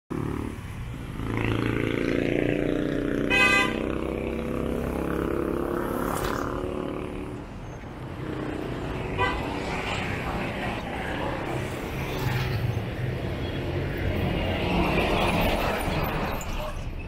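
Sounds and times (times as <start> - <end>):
motorcycle engines passing: 0.1 - 16.2
street traffic: 0.1 - 17.0.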